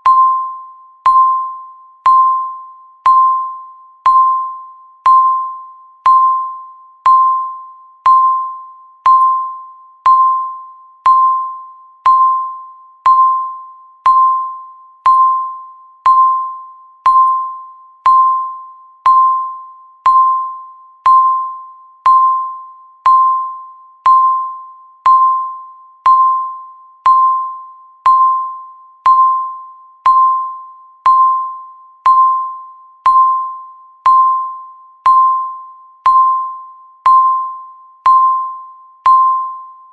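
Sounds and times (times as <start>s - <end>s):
countdown timer beeping: 0.0s - 39.7s.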